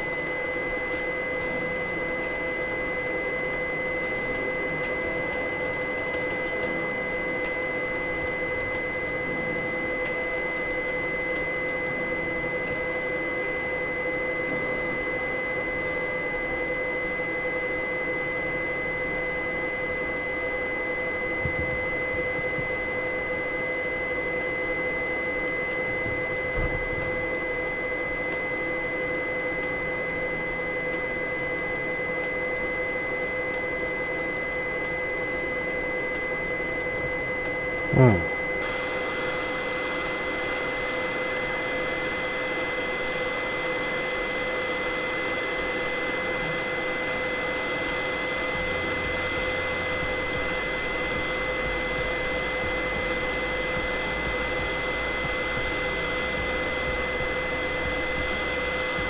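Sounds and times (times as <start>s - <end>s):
hot-air rework station blowing: 0.0s - 59.0s.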